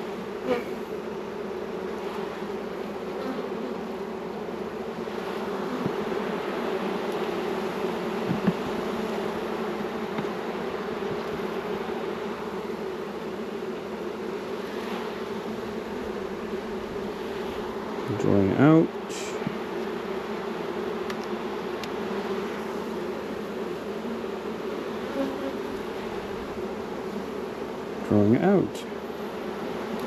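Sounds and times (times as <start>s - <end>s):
honey bees buzzing: 0.0s - 30.0s.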